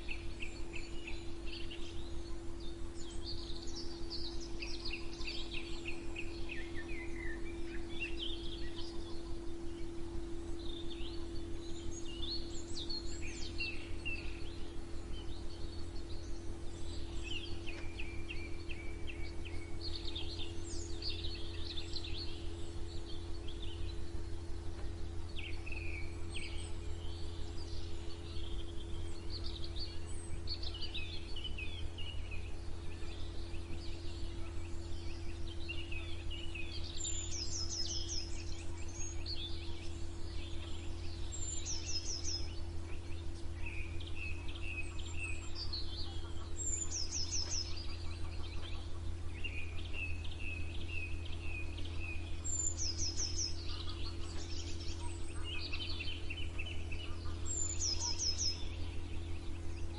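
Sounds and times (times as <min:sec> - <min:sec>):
songbirds chirping and trilling: 0:00.0 - 0:59.9
steady low hum: 0:00.0 - 0:59.9.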